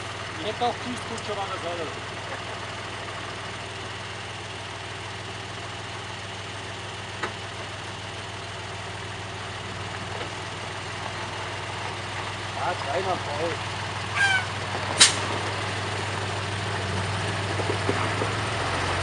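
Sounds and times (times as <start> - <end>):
fire engine diesel idling: 0.0 - 19.0.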